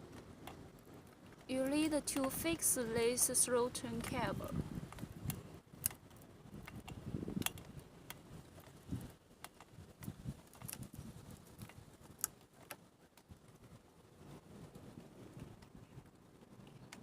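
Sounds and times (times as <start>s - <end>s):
small parts clicking and tapping: 0.0s - 13.8s.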